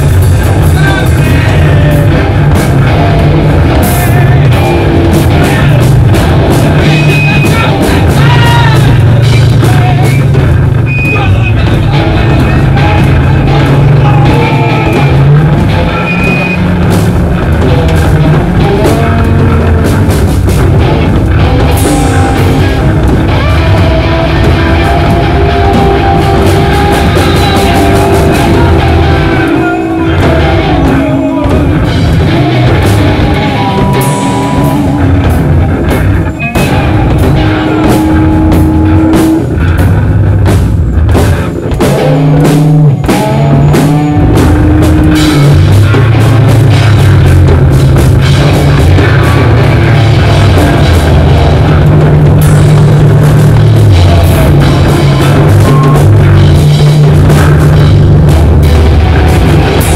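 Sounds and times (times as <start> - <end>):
loud rock band music: 0.0 - 59.9.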